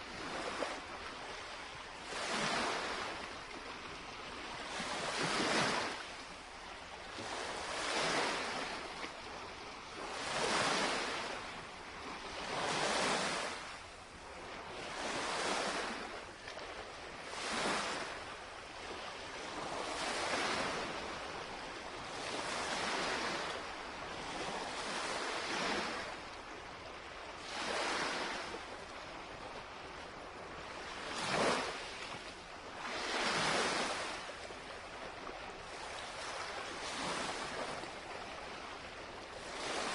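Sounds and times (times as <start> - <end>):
waves lapping against shoreline: 0.0 - 39.9.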